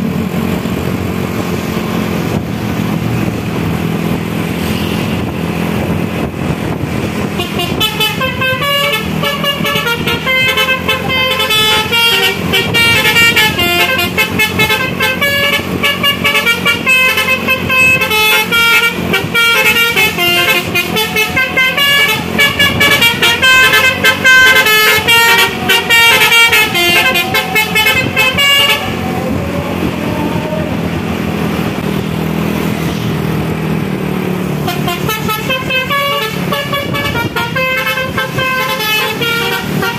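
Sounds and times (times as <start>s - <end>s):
bus engine running: 0.0s - 39.9s
multi-tone bus horn melody: 4.4s - 33.1s, 34.5s - 39.9s.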